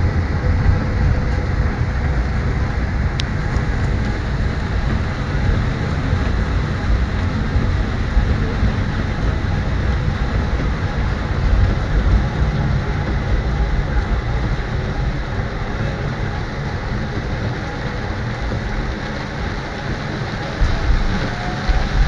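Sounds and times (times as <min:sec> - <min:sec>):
heavy rain on windscreen: 0:00.0 - 0:22.0
tram rumbling: 0:00.0 - 0:22.0.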